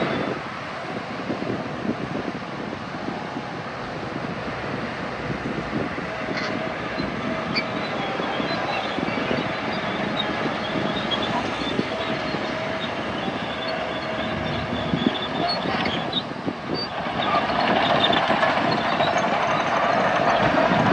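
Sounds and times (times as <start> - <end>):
diesel machinery engine: 0.0 - 20.9.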